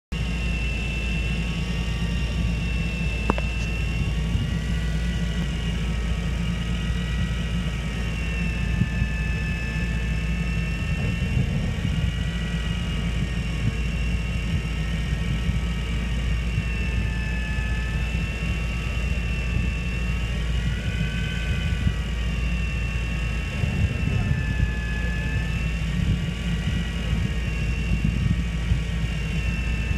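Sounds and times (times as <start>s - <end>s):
electric reel motor whine: 0.2s - 29.9s
low rumble: 0.2s - 29.9s.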